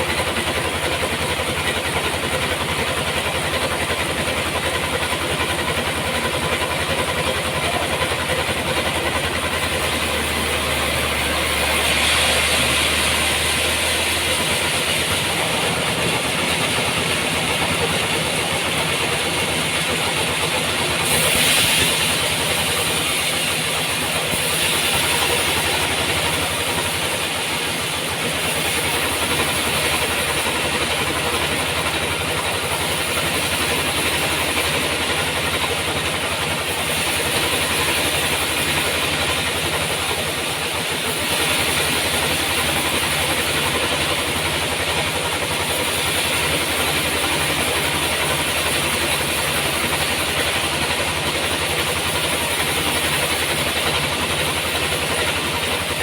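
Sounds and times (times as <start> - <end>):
saw hissing through log: 0.0 - 56.0
sawmill engine hum: 0.0 - 56.0.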